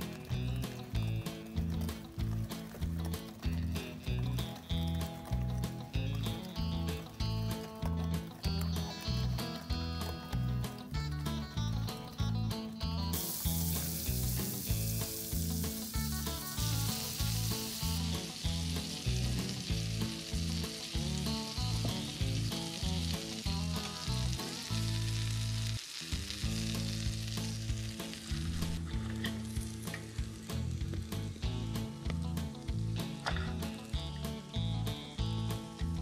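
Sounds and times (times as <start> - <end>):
batter sizzling in hot oil: 0.0 - 36.0
low background music: 0.0 - 36.0.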